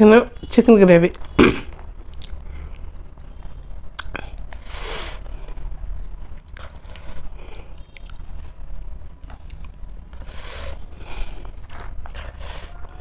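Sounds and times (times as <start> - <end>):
steady low hum: 0.0 - 13.0
chewing and mouth noises: 1.1 - 4.7, 5.3 - 13.0.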